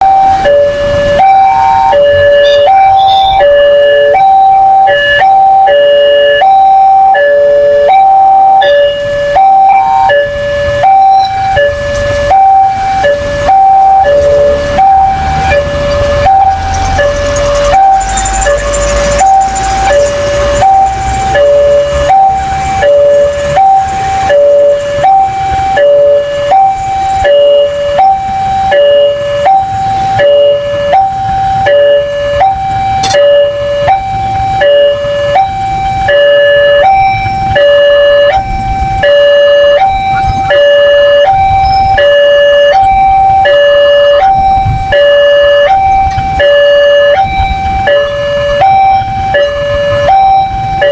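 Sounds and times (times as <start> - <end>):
two-tone crossing alarm: 0.0 - 50.9.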